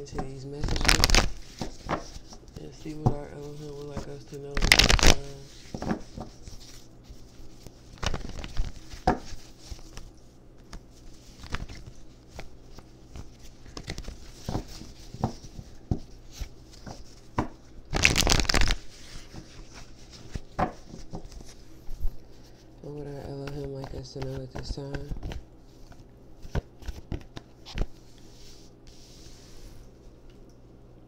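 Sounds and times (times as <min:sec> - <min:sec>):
cards being shuffled: 0:00.1 - 0:29.6.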